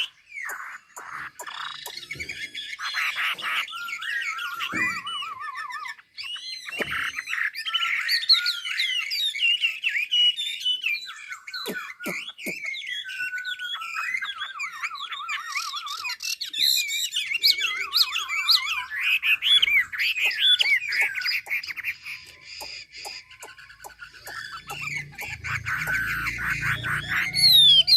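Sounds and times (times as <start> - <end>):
songbird singing: 0.0 - 27.9.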